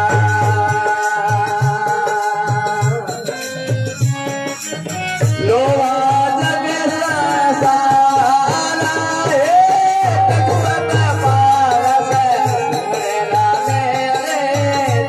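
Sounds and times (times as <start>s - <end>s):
harmonium: 0.0s - 15.0s.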